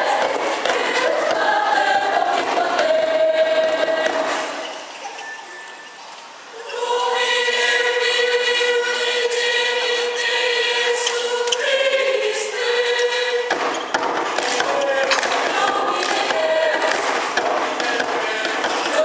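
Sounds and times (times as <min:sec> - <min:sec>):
choir singing sustained chords: 0:00.0 - 0:19.0.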